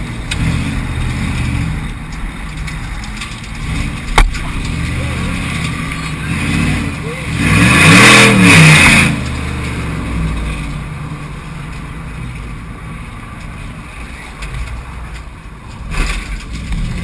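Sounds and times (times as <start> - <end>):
cars rumbling around a track: 0.0 - 17.0.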